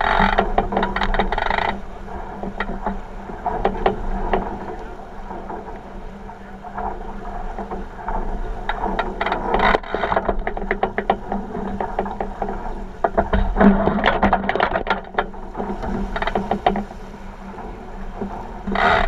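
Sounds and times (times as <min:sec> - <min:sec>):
rigging knocking and rattling: 0:00.0 - 0:05.8, 0:06.8 - 0:17.0, 0:18.2 - 0:19.0
water slapping against hull: 0:00.0 - 0:19.0.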